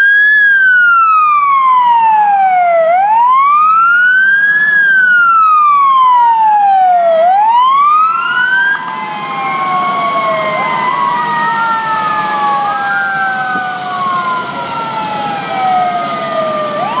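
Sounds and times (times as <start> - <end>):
fire engine sirens wailing: 0.0 - 17.0.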